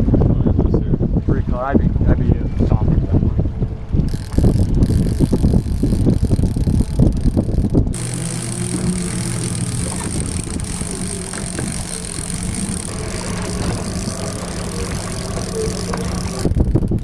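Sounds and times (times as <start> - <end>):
wind buffeting microphone: 0.0 - 17.0
outboard motors humming: 1.7 - 17.0.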